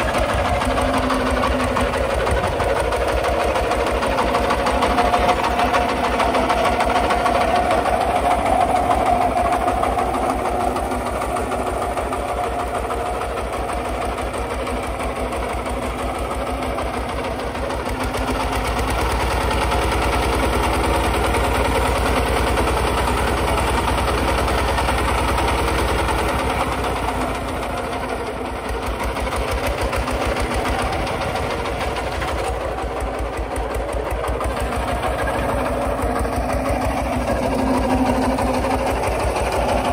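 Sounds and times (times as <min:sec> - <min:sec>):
diesel tractor engine pulsing: 0:00.0 - 0:39.9.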